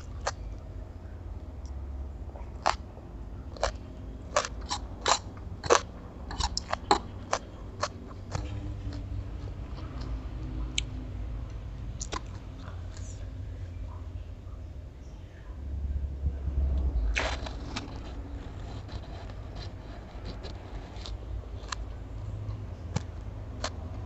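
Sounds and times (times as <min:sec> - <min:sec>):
chewing and crunching: 0:00.0 - 0:14.6, 0:16.5 - 0:24.0
steady low hum: 0:00.0 - 0:24.0.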